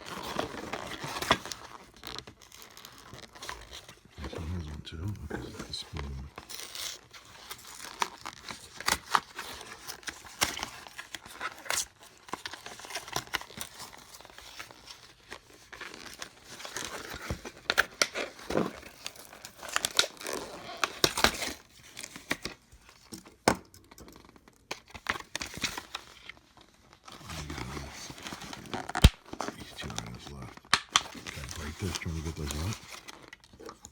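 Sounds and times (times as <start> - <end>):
packaging crinkling and tearing: 0.0 - 23.1, 24.2 - 33.9.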